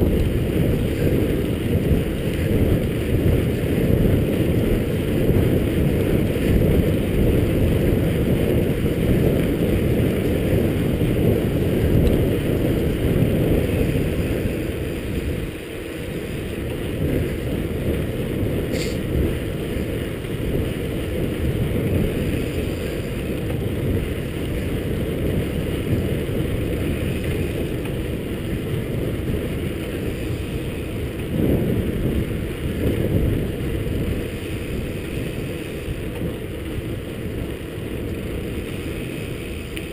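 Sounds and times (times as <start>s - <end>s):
bike tyres rolling on pavement: 0.0s - 39.9s
wind rumble on microphone: 0.0s - 39.9s.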